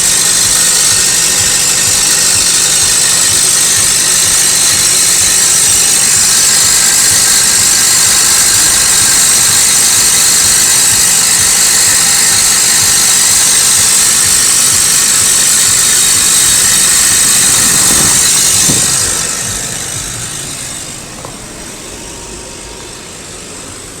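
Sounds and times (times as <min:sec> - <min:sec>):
car exhaust rattling: 0:00.0 - 0:24.0.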